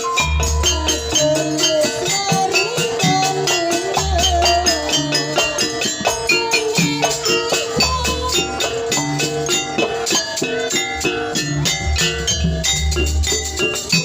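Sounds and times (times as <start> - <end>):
dense percussion: 0.0 - 14.0
ringing notes: 0.0 - 14.0
wavering melody line: 0.0 - 14.0.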